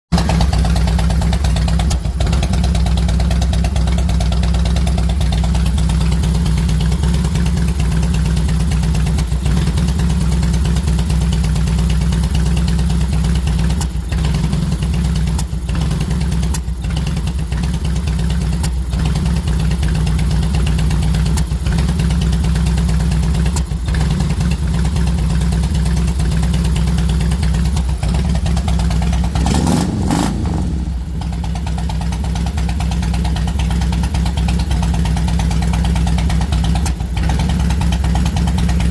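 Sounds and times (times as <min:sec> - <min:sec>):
motorcycle engine idling: 0:00.1 - 0:38.9.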